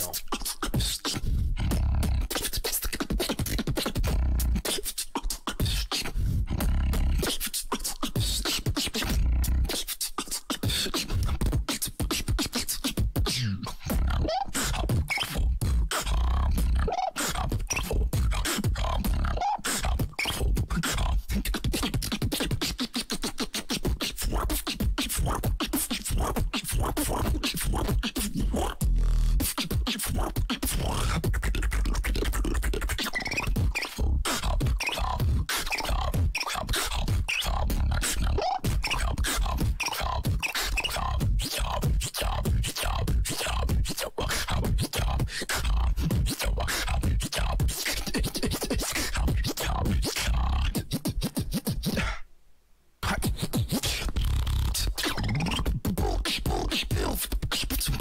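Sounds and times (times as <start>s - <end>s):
beatboxing: 0.0s - 52.3s, 53.0s - 58.0s.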